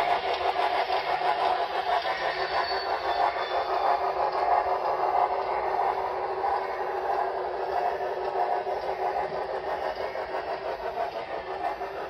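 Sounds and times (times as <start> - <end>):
model train wheels clattering: 0.0 - 12.0.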